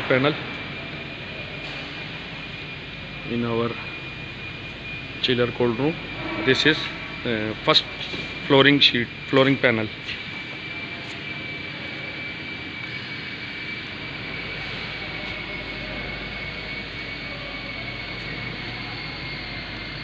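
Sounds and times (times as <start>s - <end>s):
machinery hissing with high whine: 0.0s - 20.0s.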